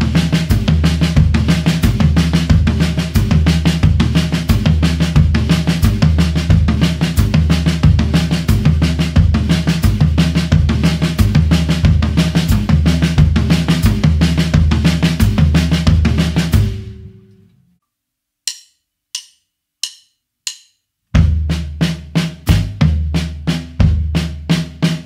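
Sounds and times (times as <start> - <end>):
drum kit playing: 0.0 - 17.2, 18.5 - 25.0.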